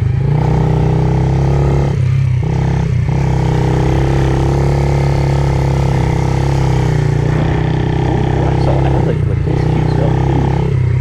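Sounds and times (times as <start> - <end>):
pit bike engine running: 0.0 - 11.0.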